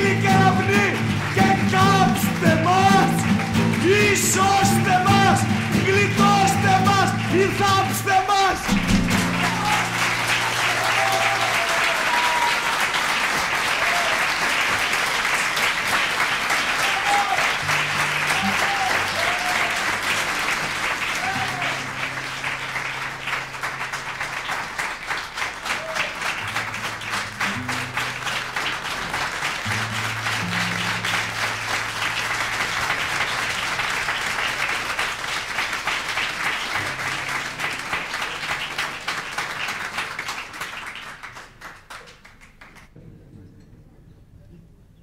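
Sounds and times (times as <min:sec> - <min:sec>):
audience applauding: 0:00.0 - 0:43.0.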